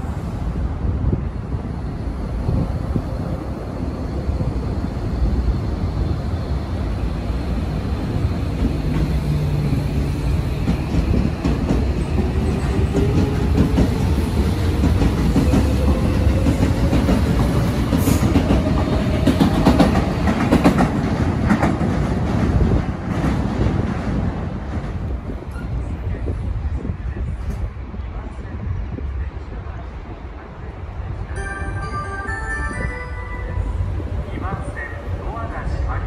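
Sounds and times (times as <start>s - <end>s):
rumble of train wheels: 0.0s - 36.0s.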